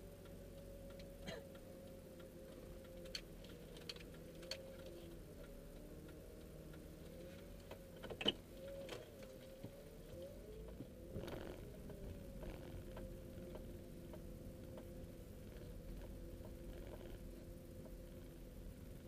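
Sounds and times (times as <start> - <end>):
faint car cabin hum: 0.0 - 19.0.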